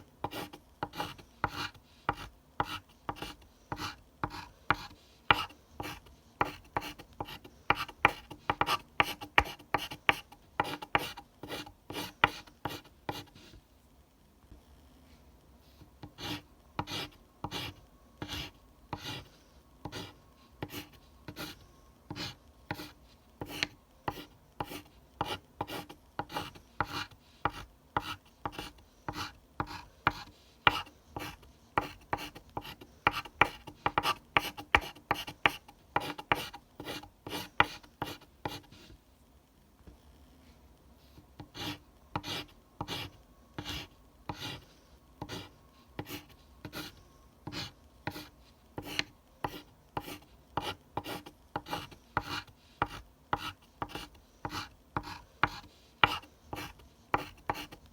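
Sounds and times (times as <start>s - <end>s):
pencil scratching on paper: 0.2s - 13.6s, 16.0s - 39.0s, 41.5s - 57.8s.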